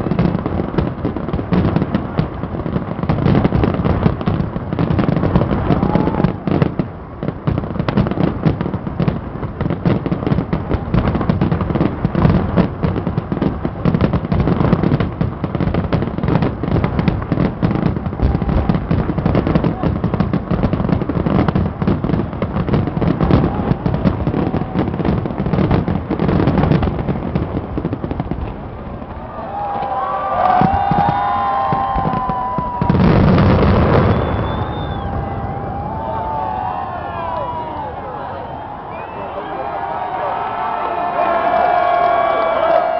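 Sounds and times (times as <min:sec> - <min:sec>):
fireworks banging: 0:00.0 - 0:42.9.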